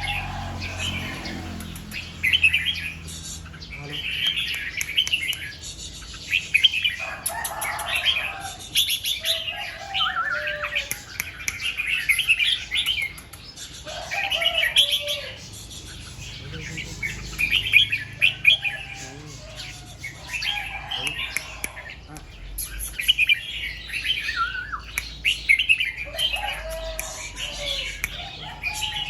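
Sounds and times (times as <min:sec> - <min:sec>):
bird chirping song: 0:00.0 - 0:29.0.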